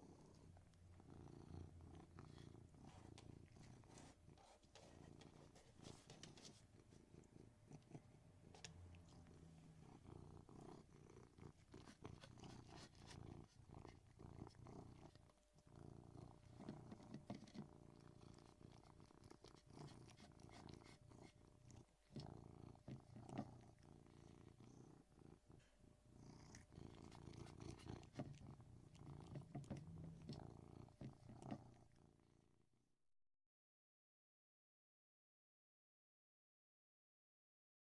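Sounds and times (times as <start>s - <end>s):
cat purring: 0.0s - 32.6s.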